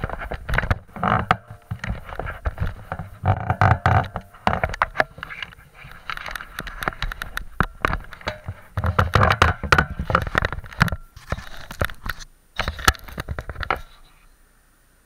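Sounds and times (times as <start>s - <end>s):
sharp clicks and rattles: 0.0s - 13.9s.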